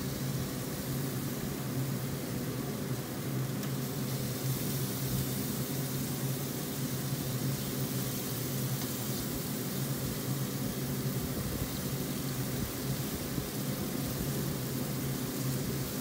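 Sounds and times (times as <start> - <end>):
blower fan humming: 0.0 - 16.0.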